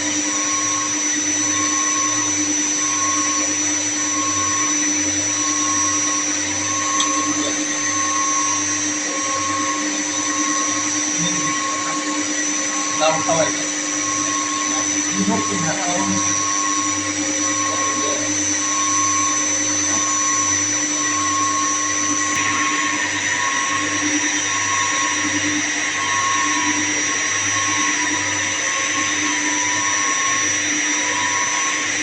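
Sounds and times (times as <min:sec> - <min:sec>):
electric motor machinery whining: 0:00.0 - 0:32.0.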